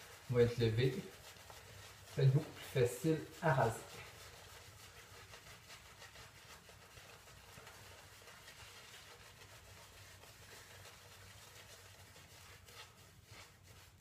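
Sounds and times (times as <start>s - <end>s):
shaving brush swishing: 0.0s - 14.0s.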